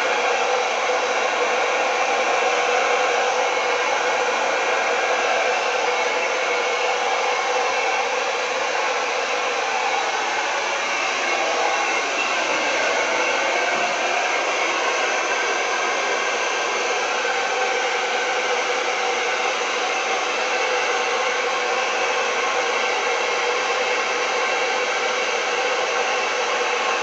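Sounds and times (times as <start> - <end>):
blow dryer running: 0.0 - 27.0.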